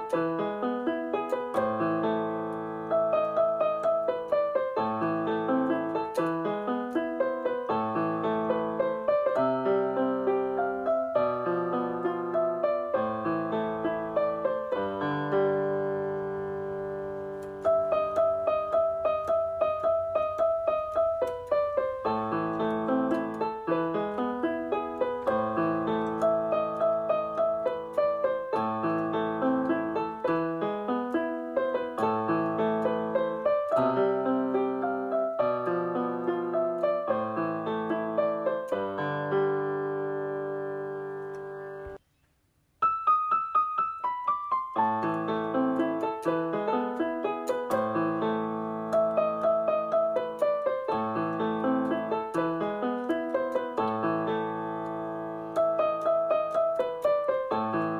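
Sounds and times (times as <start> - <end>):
piano music: 0.0 - 42.0, 42.8 - 57.9.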